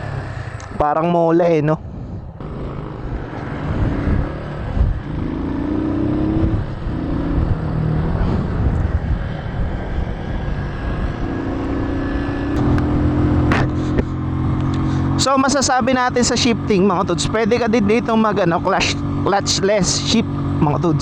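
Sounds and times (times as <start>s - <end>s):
wind noise: 0.0s - 19.3s
motorcycle engine accelerating: 2.0s - 21.0s.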